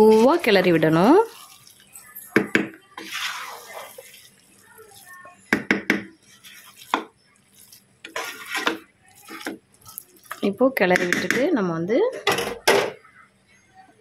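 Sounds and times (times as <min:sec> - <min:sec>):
ladle stirring rice: 0:00.0 - 0:11.2.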